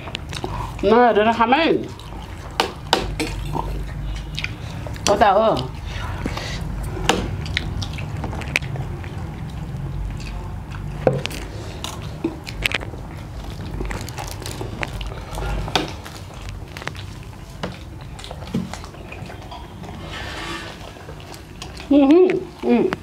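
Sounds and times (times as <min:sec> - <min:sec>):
people chewing: 0:00.0 - 0:23.0.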